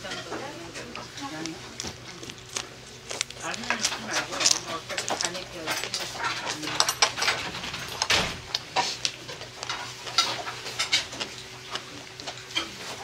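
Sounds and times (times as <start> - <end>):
chewing and wet mouth sounds: 0.1 - 13.0.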